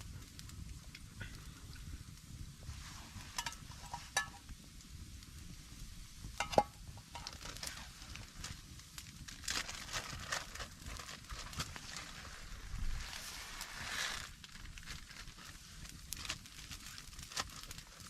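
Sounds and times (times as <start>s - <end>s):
crackles and clicks: 0.0s - 18.0s.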